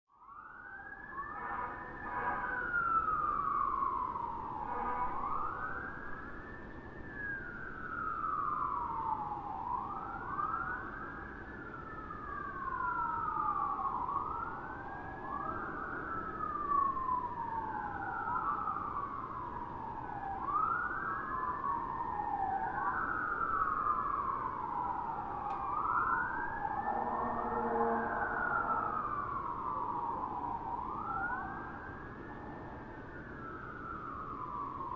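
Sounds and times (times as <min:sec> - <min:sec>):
low steady siren tone: 0:00.1 - 0:34.9
distant fire truck sirens wailing: 0:00.3 - 0:34.9.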